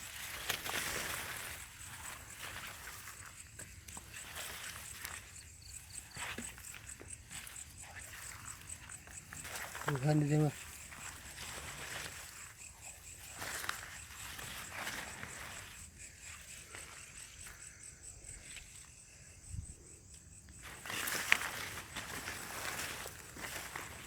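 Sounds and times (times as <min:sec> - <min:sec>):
footsteps rustling through vegetation: 0:00.0 - 0:17.7, 0:20.5 - 0:24.0
crickets trilling: 0:00.0 - 0:24.0.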